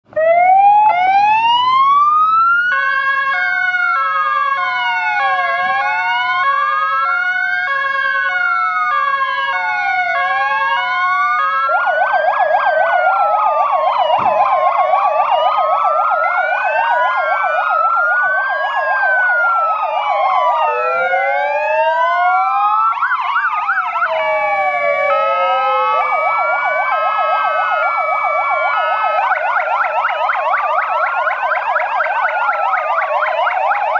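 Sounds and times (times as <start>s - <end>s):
sirens wailing: 0.0s - 33.9s
rapid siren warble: 0.1s - 33.9s.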